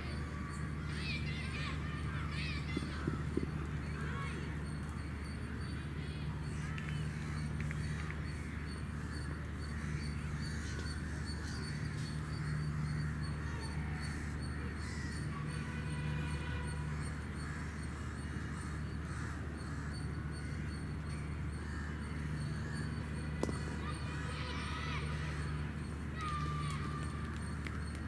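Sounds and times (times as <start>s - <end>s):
distant bird calls: 0.0s - 28.0s
intermittent low tone: 0.0s - 28.0s
steady low hum: 0.0s - 28.0s.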